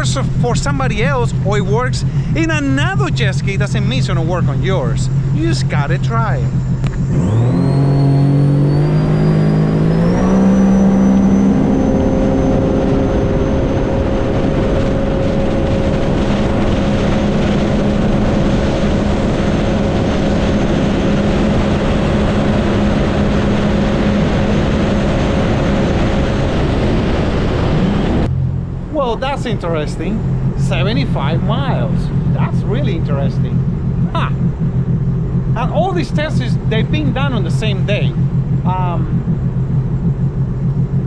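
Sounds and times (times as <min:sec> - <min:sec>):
high whine: 0:00.0 - 0:41.0
personal watercraft engine full throttle: 0:00.0 - 0:41.0.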